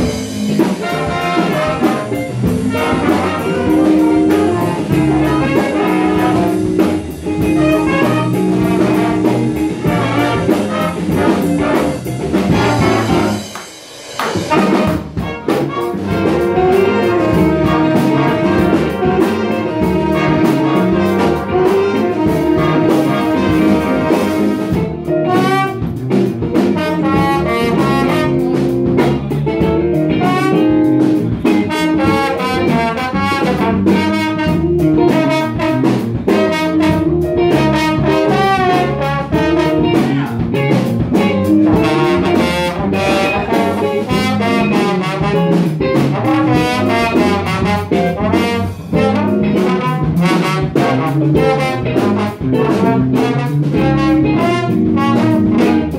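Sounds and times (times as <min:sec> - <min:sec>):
jazz big band playing: 0:00.0 - 0:55.9.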